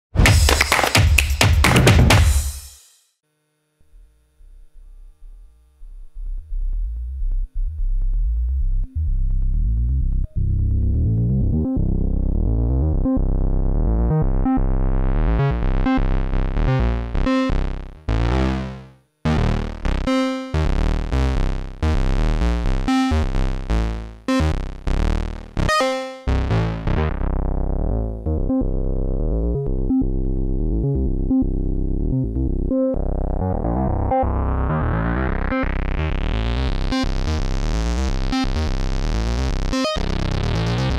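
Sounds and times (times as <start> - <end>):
analog synthesizer low sequence: 3.8 - 40.9.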